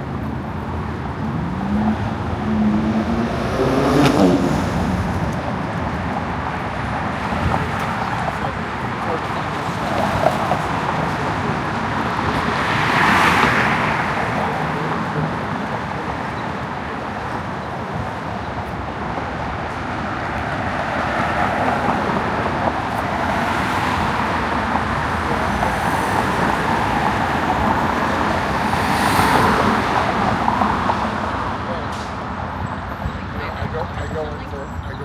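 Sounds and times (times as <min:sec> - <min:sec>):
city traffic road noise: 0:00.0 - 0:35.0.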